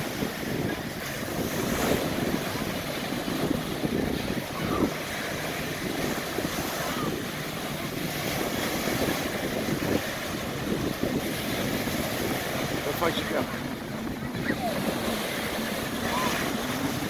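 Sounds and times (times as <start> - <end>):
surf and choppy sea: 0.0 - 17.0
wind buffeting microphone: 0.0 - 17.0.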